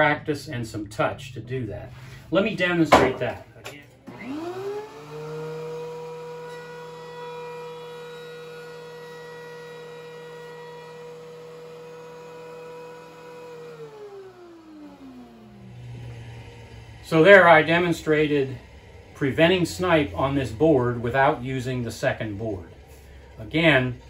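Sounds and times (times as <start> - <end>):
thickness planer motor whining: 3.9 - 24.0.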